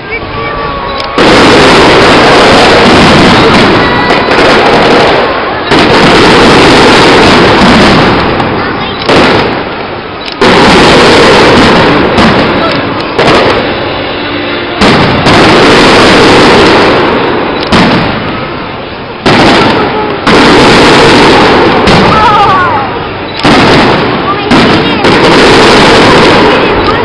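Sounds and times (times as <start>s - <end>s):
firework shells banging: 1.0s - 27.0s.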